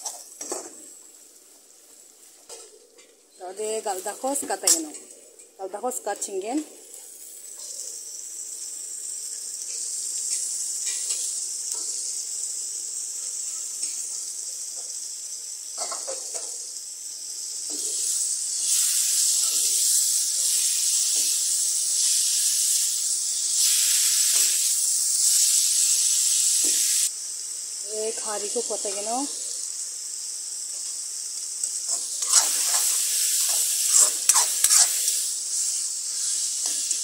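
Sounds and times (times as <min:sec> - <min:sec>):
leaves sizzling in hot oil: 0:00.0 - 0:37.0.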